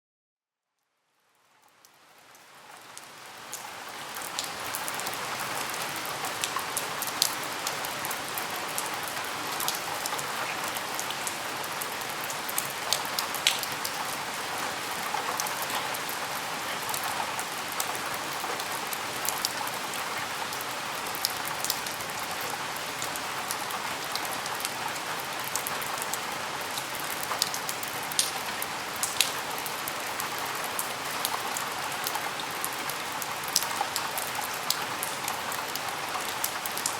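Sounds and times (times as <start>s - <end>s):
steady rain hiss: 1.1s - 36.9s
raindrops ticking close by: 1.6s - 36.9s.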